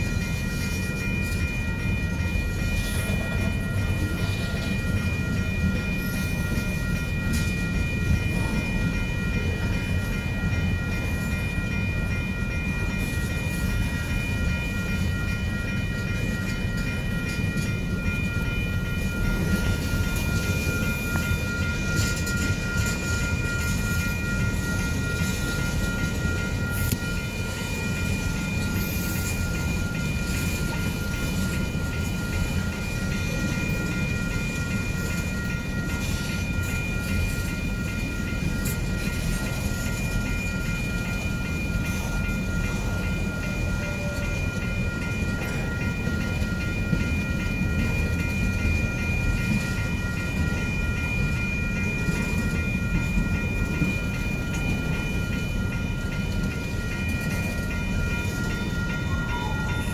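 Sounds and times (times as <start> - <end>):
freight train wheels rumbling: 0.0 - 59.9
high-pitched ringing tone: 0.0 - 59.9.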